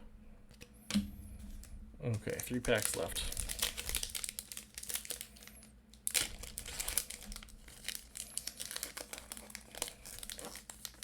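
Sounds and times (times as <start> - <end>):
plastic wrapper crinkling: 1.4 - 11.0.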